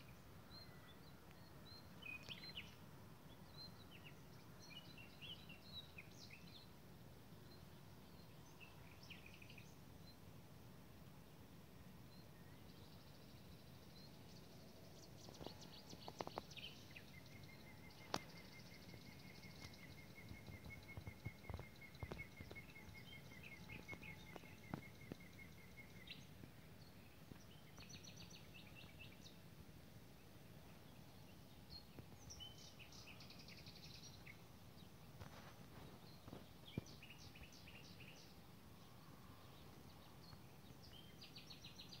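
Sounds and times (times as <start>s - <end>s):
faint birdsong: 0.0s - 42.0s.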